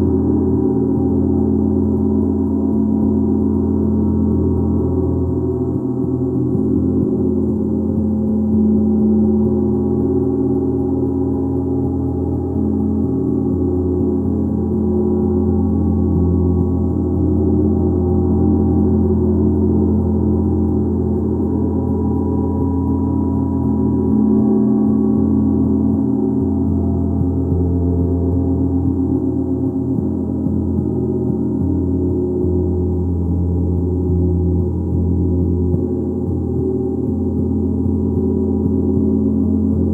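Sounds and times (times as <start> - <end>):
gong played continuously: 0.0 - 39.9.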